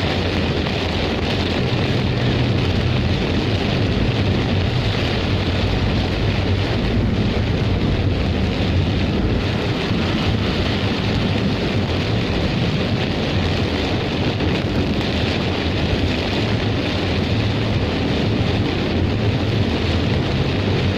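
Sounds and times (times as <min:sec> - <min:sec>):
heavy rain pouring: 0:00.0 - 0:20.9
low vehicle rumble: 0:00.0 - 0:20.9
wind: 0:00.0 - 0:20.9.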